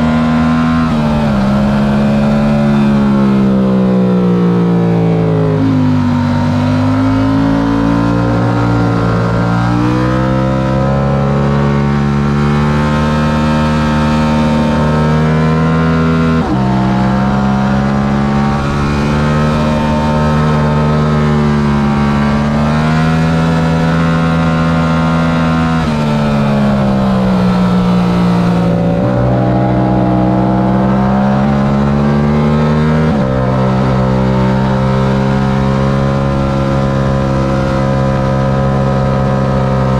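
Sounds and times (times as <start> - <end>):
motorcycle engine at racing speed: 0.0 - 39.9.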